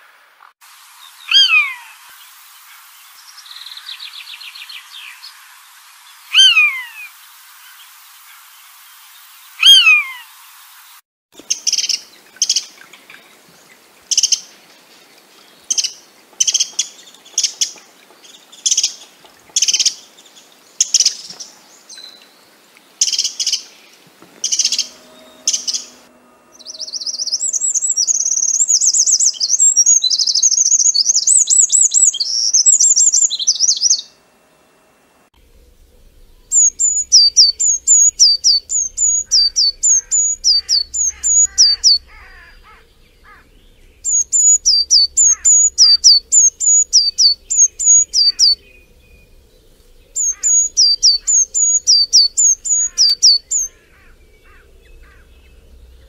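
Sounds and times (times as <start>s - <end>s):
songbirds calling: 0.0s - 34.2s, 35.4s - 56.0s.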